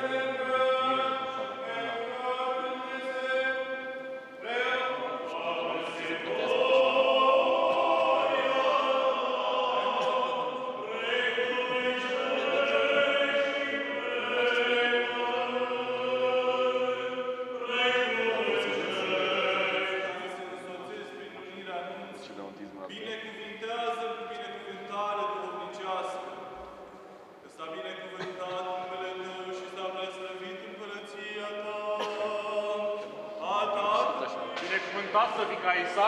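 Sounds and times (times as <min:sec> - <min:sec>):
choir singing chant: 0:00.0 - 0:22.2, 0:27.7 - 0:36.0.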